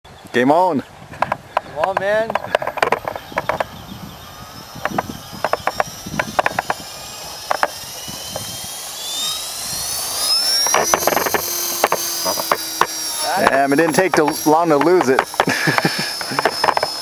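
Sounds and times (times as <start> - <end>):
rc helicopter motor whine rising: 0.1 - 17.0
sharp clicks: 1.2 - 3.9, 4.5 - 17.0.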